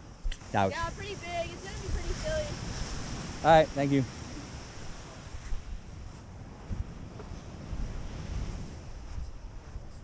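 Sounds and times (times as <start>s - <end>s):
ocean surf: 0.0s - 9.9s
wind buffeting microphone: 0.0s - 10.0s.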